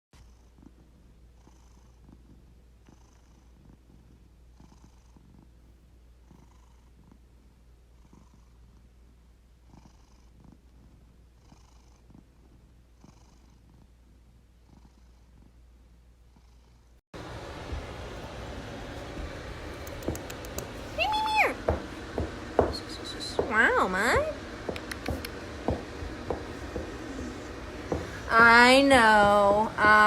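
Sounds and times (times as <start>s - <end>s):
cat purring: 0.2s - 17.0s, 19.0s - 30.0s.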